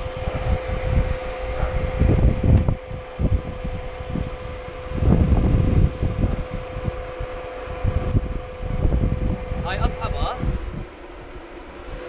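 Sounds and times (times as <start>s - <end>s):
steady high hum: 0.0s - 12.0s
wind buffeting microphone: 0.0s - 12.0s.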